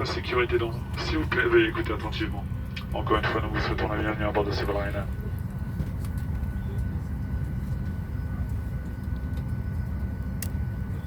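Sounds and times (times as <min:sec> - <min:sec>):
cabin air supply rumble: 0:00.0 - 0:11.0.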